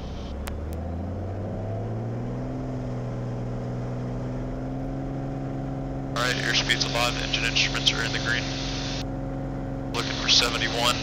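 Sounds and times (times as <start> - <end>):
plane engine at takeoff power: 0.0 - 11.0.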